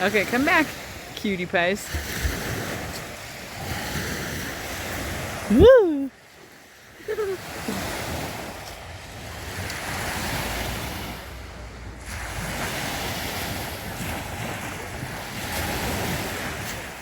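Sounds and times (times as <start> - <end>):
waves washing in: 0.0 - 17.0.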